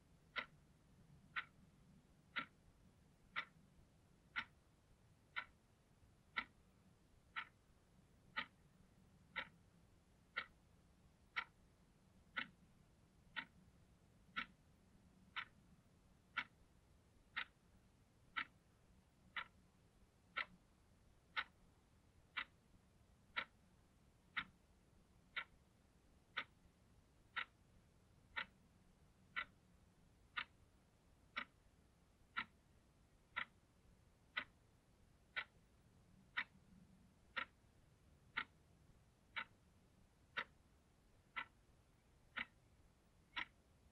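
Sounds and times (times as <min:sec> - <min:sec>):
alarm clock ticking: 0:00.1 - 0:43.9.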